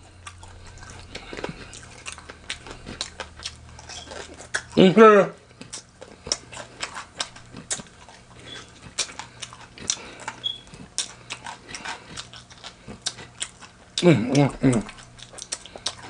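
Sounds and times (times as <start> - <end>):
chewing crispy food: 0.0 - 16.0
faint low hum: 0.0 - 16.0.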